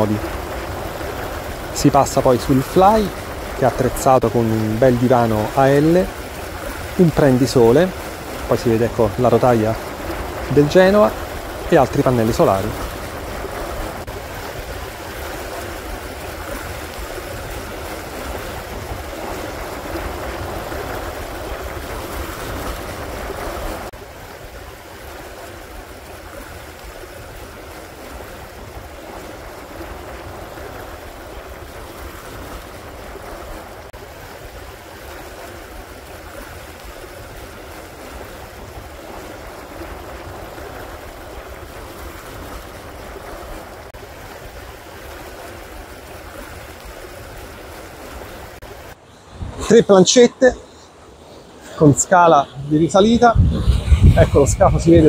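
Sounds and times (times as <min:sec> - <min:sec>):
water rushing along hulls: 0:00.0 - 0:55.0
wind: 0:00.0 - 0:55.0.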